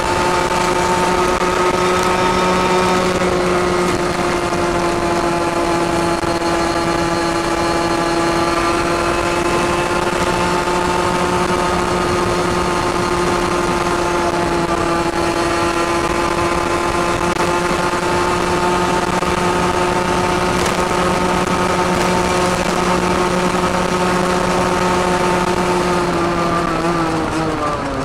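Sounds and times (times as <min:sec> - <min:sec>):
two-stroke motorcycle engine: 0:00.0 - 0:28.0.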